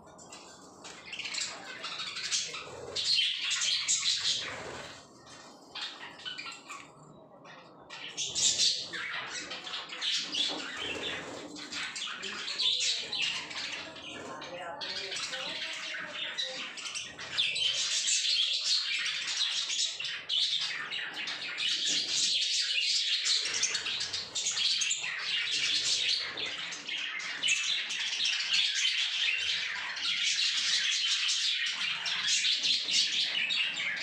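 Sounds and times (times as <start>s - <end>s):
budgerigars chattering: 0.9s - 5.0s, 5.7s - 34.0s.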